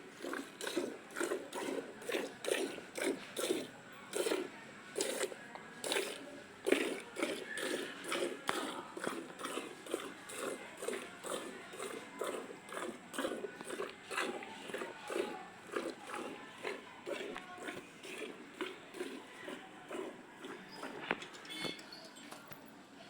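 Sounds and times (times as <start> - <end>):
milk squirting into a bucket: 0.0 - 21.6.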